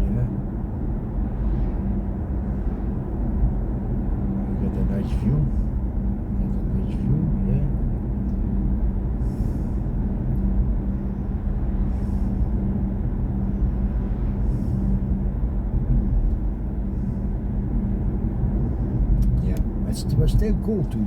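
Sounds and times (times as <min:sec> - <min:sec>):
low steady hum: 0:00.0 - 0:21.0
road and tyre rumble in car: 0:00.0 - 0:21.0.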